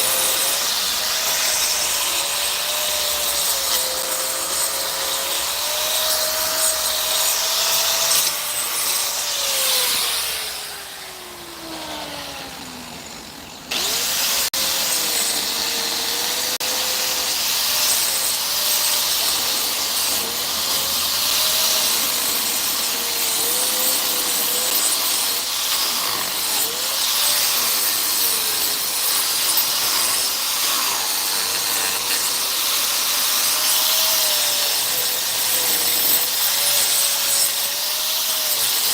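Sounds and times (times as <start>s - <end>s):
electric power tool on wood: 0.0s - 38.9s.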